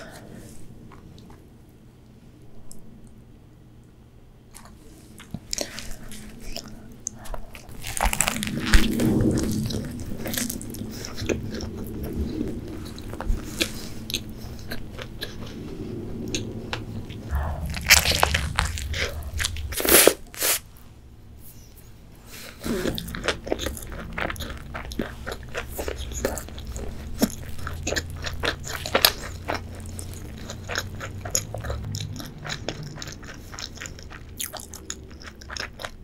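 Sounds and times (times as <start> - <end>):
crunchy chewing of fried chicken: 4.5 - 20.6, 22.3 - 36.0.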